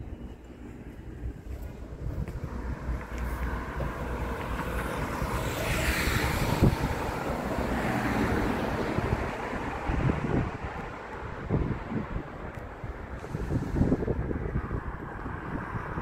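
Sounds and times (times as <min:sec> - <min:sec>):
wind rumble on microphone: 0:00.0 - 0:16.0
vehicle passing: 0:01.0 - 0:16.0.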